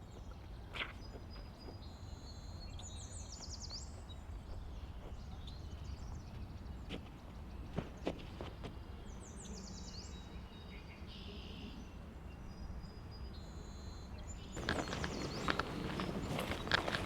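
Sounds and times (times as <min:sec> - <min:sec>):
songbirds calling: 0:00.0 - 0:17.0.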